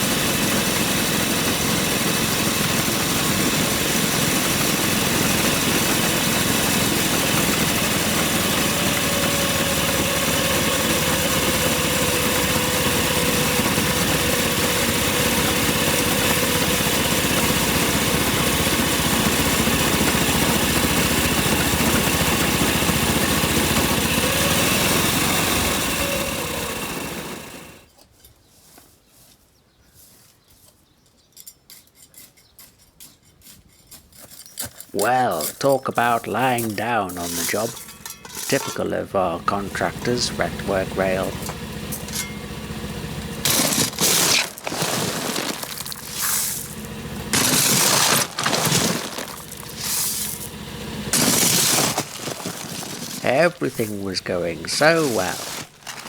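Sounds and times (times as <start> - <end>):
small locomotive engine: 0.0 - 28.0, 33.7 - 56.0
wheels on rails: 0.0 - 28.2, 37.1 - 56.0.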